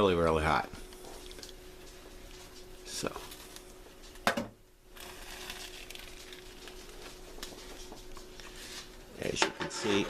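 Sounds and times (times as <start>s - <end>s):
microwave hum: 0.0s - 10.0s.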